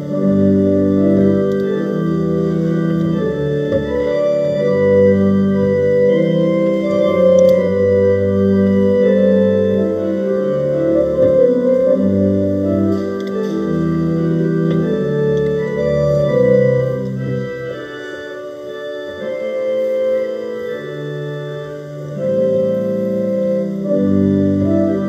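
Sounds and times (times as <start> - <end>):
pipe organ playing chords: 0.0 - 25.0.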